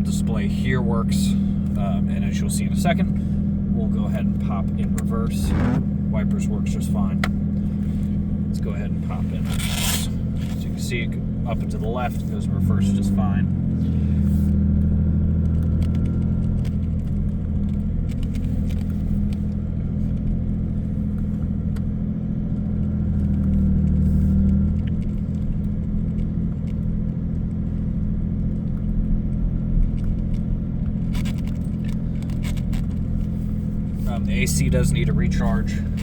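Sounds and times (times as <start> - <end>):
car engine running at low speed: 0.0 - 36.0.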